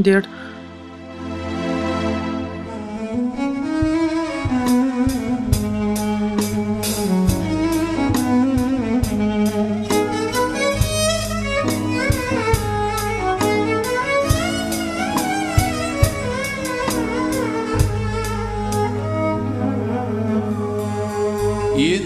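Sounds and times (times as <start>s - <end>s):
string melody: 0.0s - 22.0s.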